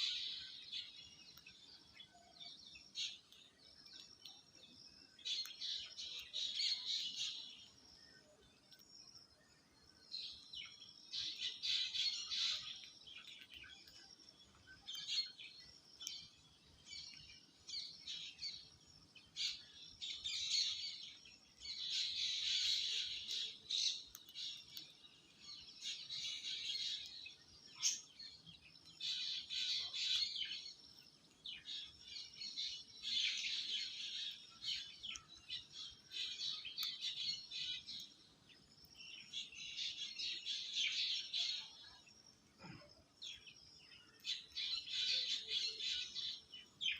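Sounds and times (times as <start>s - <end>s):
birds chirping and twittering: 0.0s - 46.9s.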